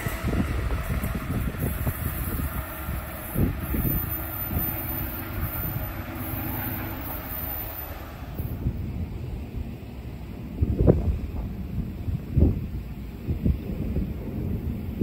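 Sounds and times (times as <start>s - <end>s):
train rumbling past: 0.0s - 15.0s
wind buffeting microphone: 0.0s - 15.0s.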